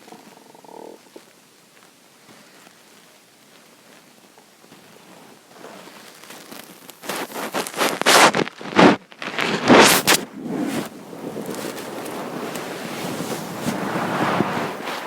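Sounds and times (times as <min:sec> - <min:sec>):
bedding and clothes rustling: 0:00.0 - 0:15.0
faint hiss: 0:00.0 - 0:15.0.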